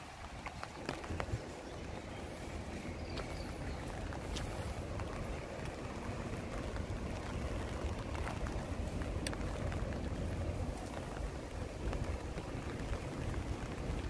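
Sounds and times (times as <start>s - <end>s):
light rain on wet paving: 0.0s - 14.0s
wind rumble on microphone: 0.0s - 14.0s.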